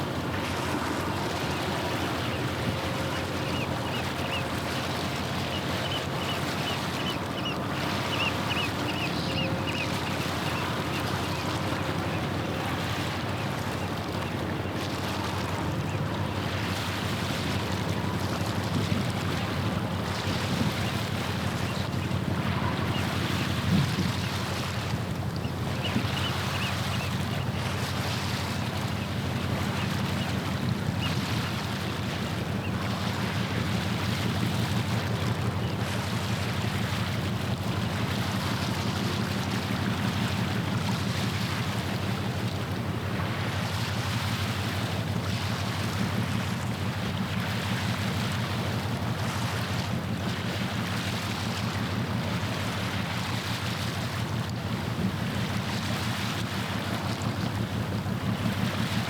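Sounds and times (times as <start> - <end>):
ship diesel engine drone: 0.0 - 55.7
water washing against shore: 0.0 - 59.0.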